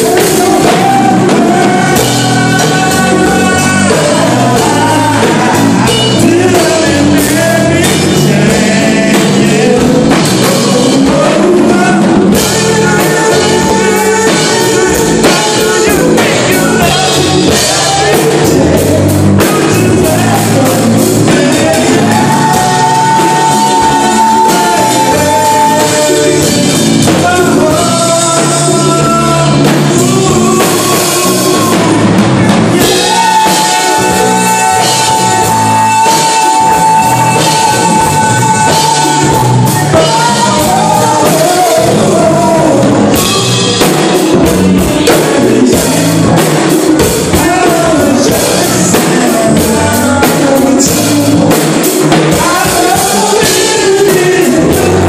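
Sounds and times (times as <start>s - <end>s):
loud music with drums: 0.0s - 55.0s
person singing long notes: 0.0s - 55.0s.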